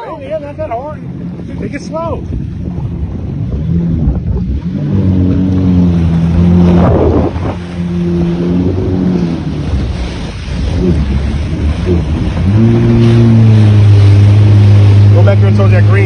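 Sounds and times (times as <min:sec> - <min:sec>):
jet ski engine running: 0:00.0 - 0:16.0
water and wind noise: 0:00.0 - 0:16.0.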